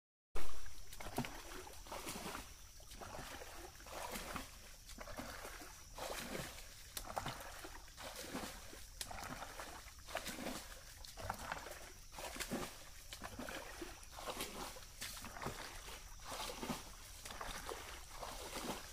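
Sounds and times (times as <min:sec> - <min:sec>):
muddy water splashing: 0:00.4 - 0:18.9.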